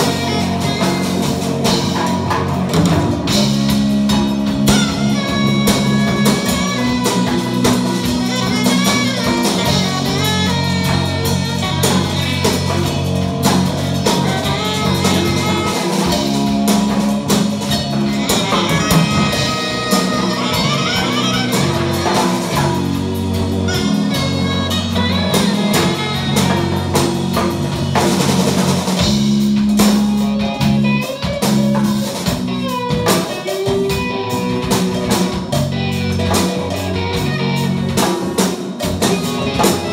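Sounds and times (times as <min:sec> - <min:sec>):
djembe: 0:00.0 - 0:39.9
drum kit: 0:00.0 - 0:39.9
electric guitar: 0:00.0 - 0:39.9
saxophone: 0:00.0 - 0:39.9.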